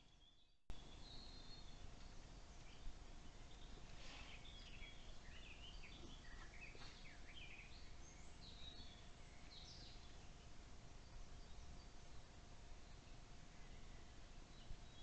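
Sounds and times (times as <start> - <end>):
faint hum: 0.0 - 15.0
songbird singing: 0.0 - 15.0.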